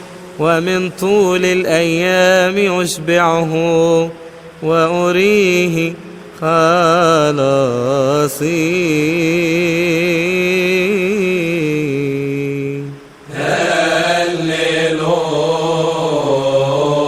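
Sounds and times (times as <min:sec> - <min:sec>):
man chanting a prayer: 0:00.4 - 0:17.0.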